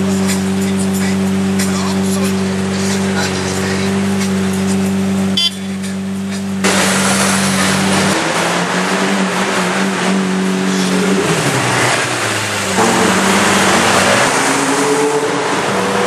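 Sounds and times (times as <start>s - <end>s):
car engine and exhaust running loud: 0.0s - 16.0s.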